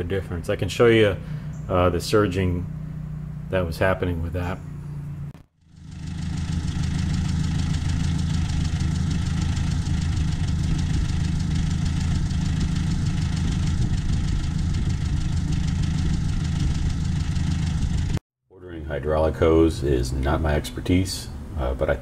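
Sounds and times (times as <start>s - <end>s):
tractor engine running: 0.0s - 18.2s.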